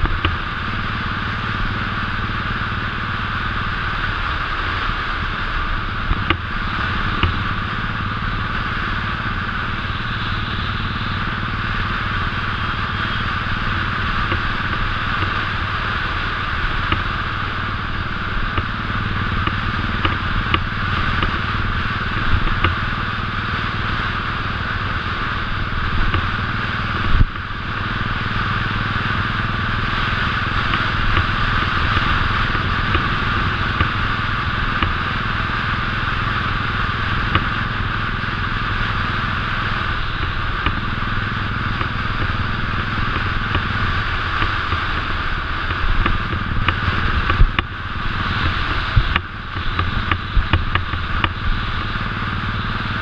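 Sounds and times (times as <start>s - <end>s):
motorcycle engine cruising: 0.0s - 53.0s
road and wind noise: 0.0s - 53.0s.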